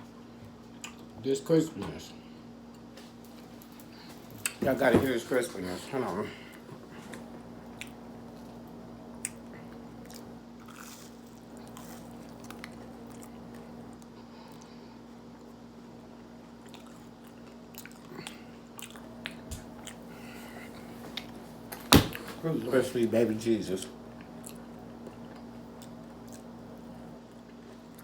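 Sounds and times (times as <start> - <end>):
steady low hum: 0.0 - 28.0
crunching and chewing food: 0.3 - 1.2, 2.7 - 4.6, 6.4 - 22.3, 23.8 - 28.0.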